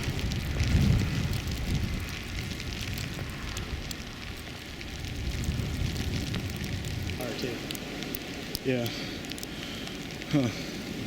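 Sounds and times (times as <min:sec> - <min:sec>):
crackle: 0:00.0 - 0:11.0
wind buffeting microphone: 0:00.0 - 0:11.0.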